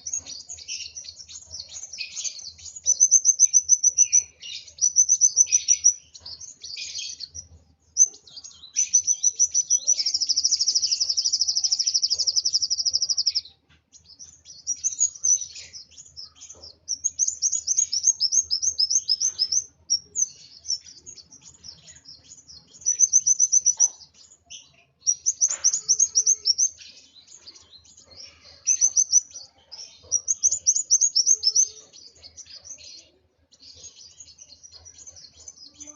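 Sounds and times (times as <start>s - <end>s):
bird singing rapid high trills: 0.0s - 35.9s.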